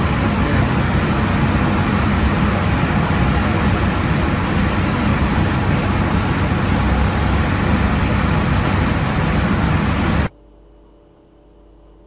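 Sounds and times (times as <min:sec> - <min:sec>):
jet cockpit airflow and engine roar: 0:00.0 - 0:10.4.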